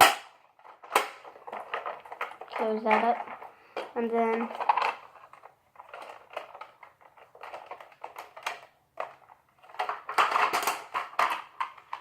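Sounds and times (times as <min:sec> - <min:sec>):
plastic parts clicking: 0:00.0 - 0:12.0
plastic toy rattling and scraping: 0:00.0 - 0:12.0.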